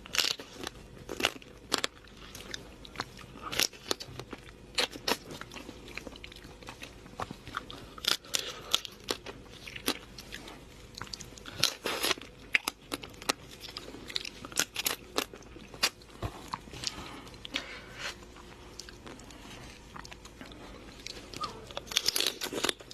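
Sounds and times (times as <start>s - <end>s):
person chewing crunchy food: 0.0s - 22.9s.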